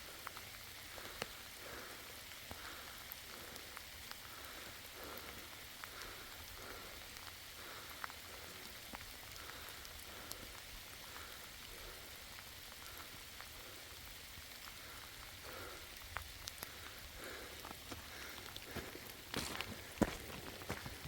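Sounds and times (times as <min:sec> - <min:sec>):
raindrops ticking: 0:00.0 - 0:21.0
steady rain falling: 0:00.0 - 0:21.0.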